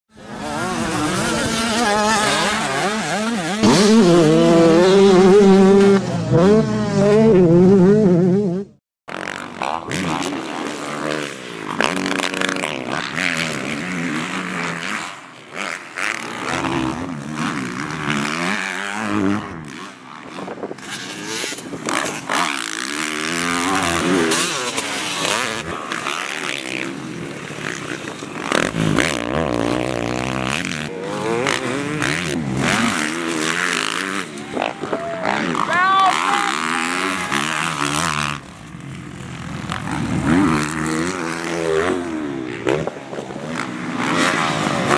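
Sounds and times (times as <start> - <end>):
dirt bike engines revving: 0.1 - 44.9.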